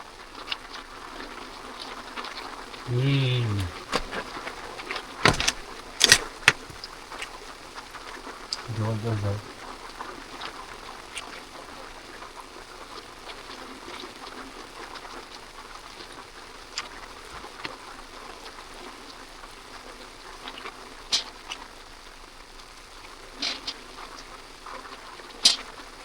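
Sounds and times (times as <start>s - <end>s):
rain pattering on a tent: 0.0s - 26.0s.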